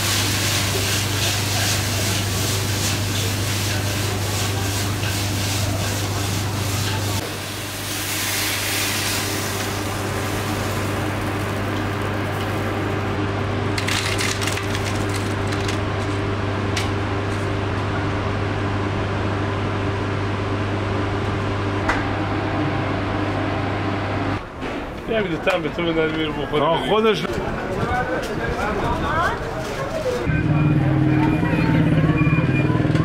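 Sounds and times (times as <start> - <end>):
kitchen machinery humming: 0.0 - 33.0.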